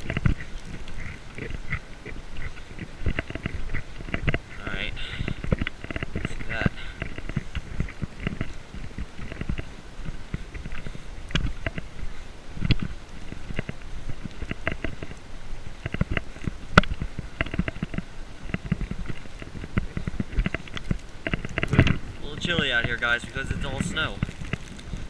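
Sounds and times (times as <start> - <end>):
microphone handling noise: 0.0 - 25.0.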